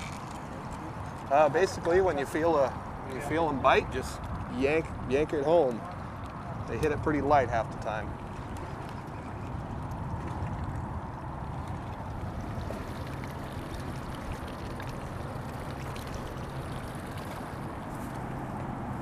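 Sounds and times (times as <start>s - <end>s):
boat engine low rumble: 0.0s - 19.0s
water lapping on hull: 0.0s - 19.0s.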